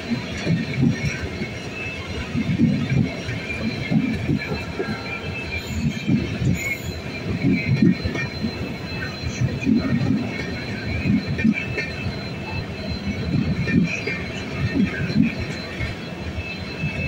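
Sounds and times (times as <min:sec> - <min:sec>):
high wheel squeal: 0:00.0 - 0:17.0
train rumble: 0:00.0 - 0:17.0.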